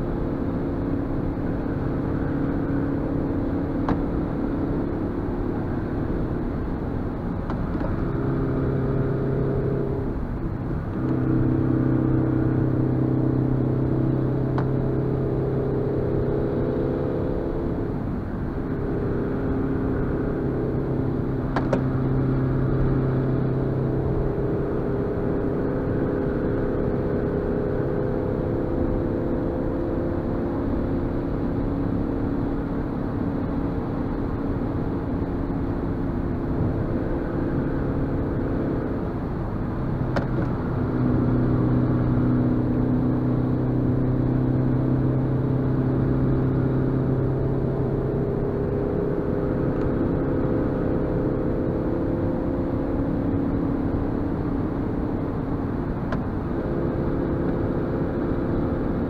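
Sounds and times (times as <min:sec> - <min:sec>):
car engine pulling uphill: 0:00.0 - 0:59.0
tyre and road noise: 0:00.0 - 0:59.0.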